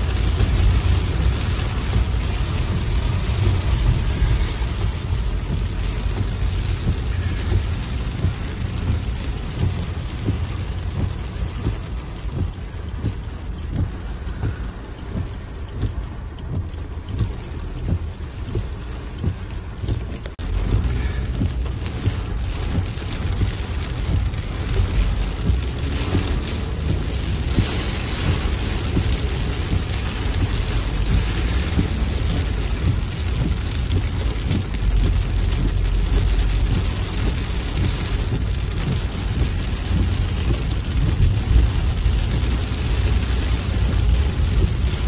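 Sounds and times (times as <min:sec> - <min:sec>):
car rumble: 0:00.0 - 0:45.0
heavy rain on car roof: 0:00.0 - 0:45.0.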